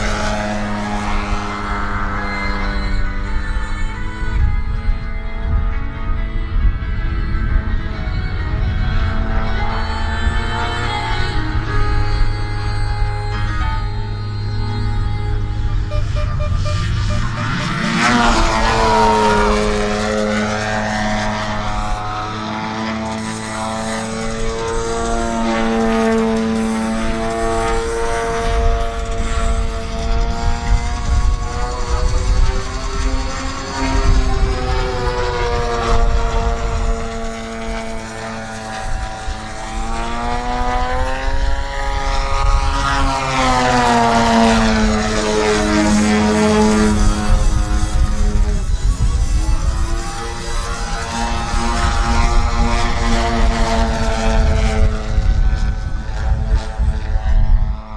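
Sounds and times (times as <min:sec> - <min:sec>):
model airplane engine and propeller: 0:00.0 - 0:57.9.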